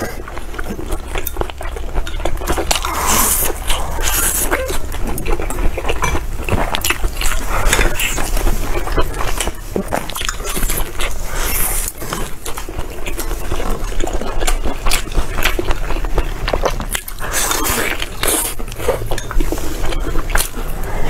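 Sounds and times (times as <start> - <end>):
biting and chewing food: 0.0 - 21.0.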